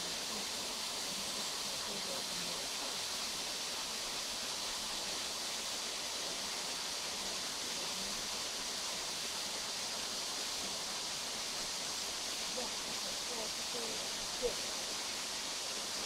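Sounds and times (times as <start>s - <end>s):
waterfall rushing hiss: 0.0s - 16.0s.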